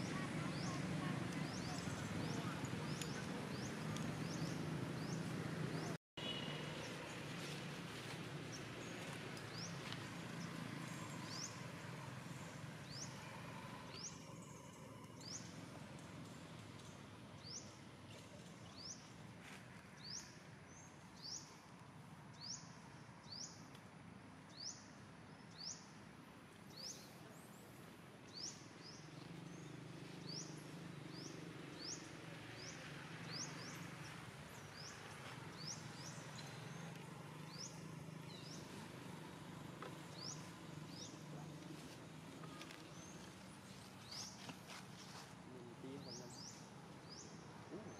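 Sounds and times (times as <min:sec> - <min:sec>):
faint outdoor ambience: 0:00.0 - 0:47.9.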